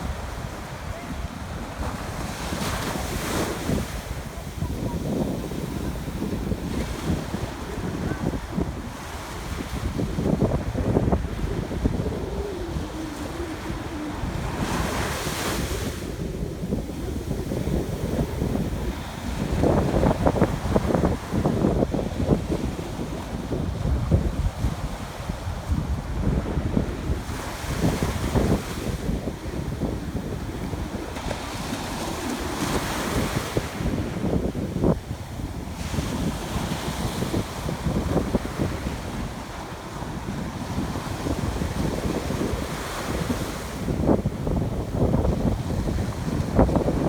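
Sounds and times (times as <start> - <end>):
sea surf washing on beach: 0.0 - 47.0
wind buffeting microphone: 0.0 - 47.0.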